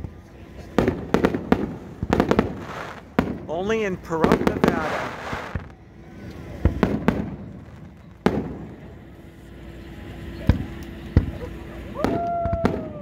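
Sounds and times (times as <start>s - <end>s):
fireworks bangs: 0.0s - 5.8s, 6.5s - 13.0s.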